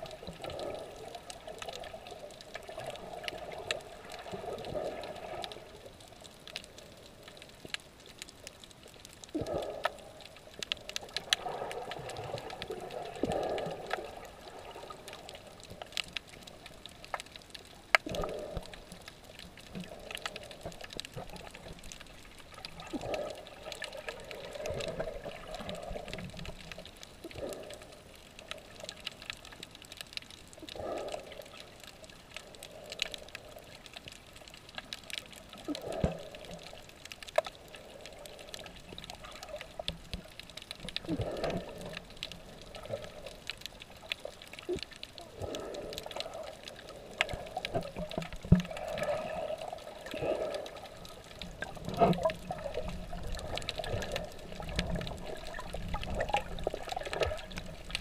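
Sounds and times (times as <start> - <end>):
muffled water swishing: 0.0 - 58.0
sharp underwater clicks: 0.0 - 58.0.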